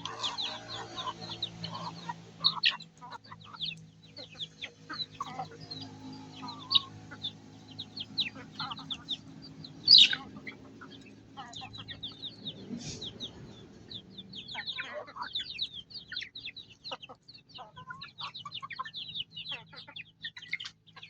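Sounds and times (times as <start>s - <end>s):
chicks peeping: 0.0s - 21.0s
hens clucking: 0.0s - 21.0s.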